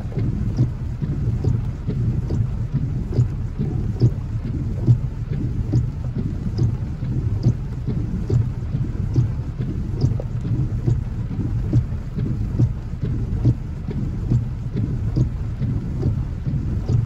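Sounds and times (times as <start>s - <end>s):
heavy rain on vehicle roof: 0.0s - 17.0s.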